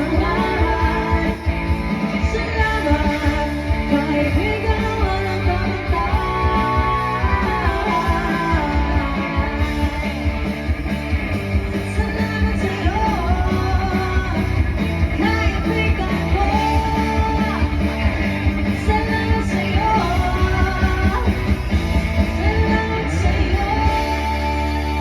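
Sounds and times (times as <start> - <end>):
lead singer: 0.0 - 25.0
live rock band playing: 0.0 - 25.0.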